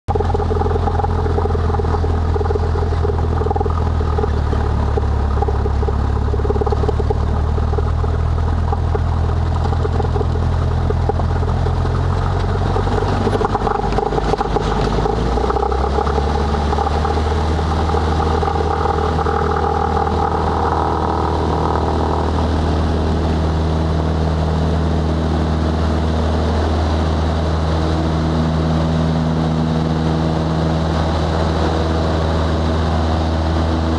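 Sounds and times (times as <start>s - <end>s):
propeller plane engine at high power: 0.0s - 33.9s.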